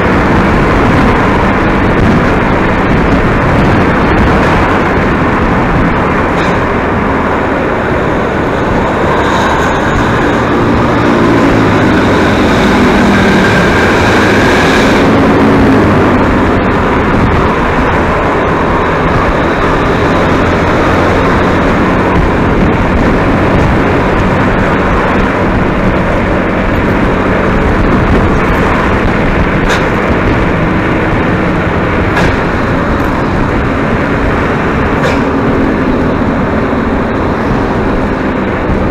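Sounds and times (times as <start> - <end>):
bus engine: 0.0 - 38.9
tyre and wind rush: 0.0 - 38.9.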